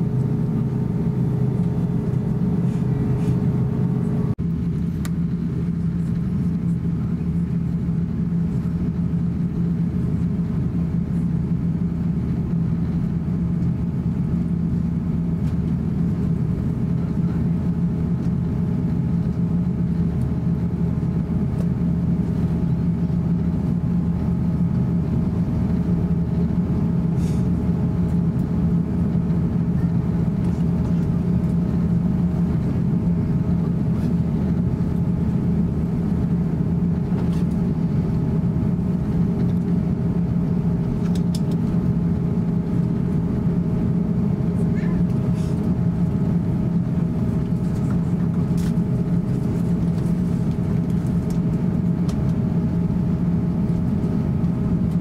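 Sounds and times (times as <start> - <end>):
airplane cabin engine hum: 0.0 - 55.0.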